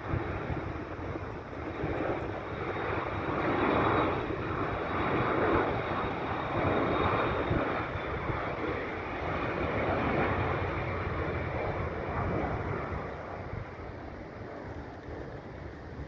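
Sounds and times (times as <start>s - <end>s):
jet engine rushing rumble: 0.0s - 16.0s
wind buffeting microphone: 0.0s - 16.0s.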